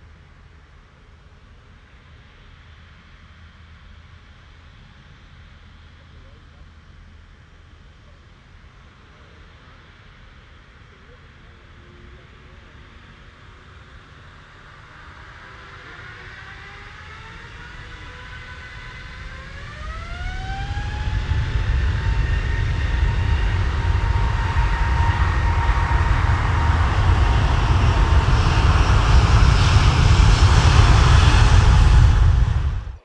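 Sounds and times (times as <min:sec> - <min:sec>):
jet engine deep rumble: 0:00.0 - 0:33.0
jet engine whine: 0:00.0 - 0:33.0.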